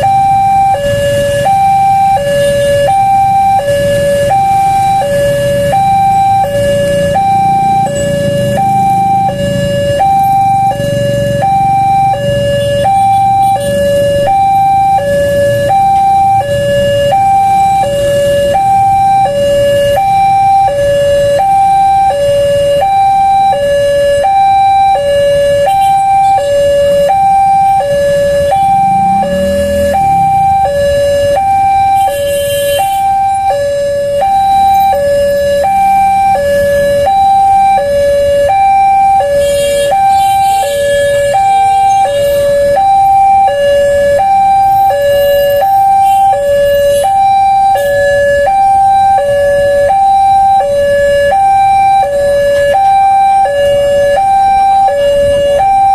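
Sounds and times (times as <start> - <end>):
two-tone level-crossing alarm: 0.0 - 55.9.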